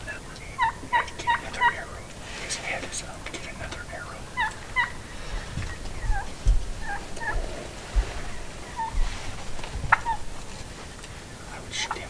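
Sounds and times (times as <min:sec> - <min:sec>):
turkey calling: 0:00.0 - 0:12.0.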